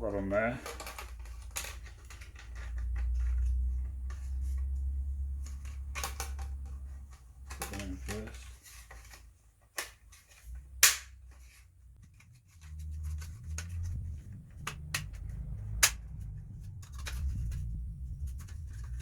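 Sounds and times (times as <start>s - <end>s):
low rumbling handling noise: 0.0s - 19.0s.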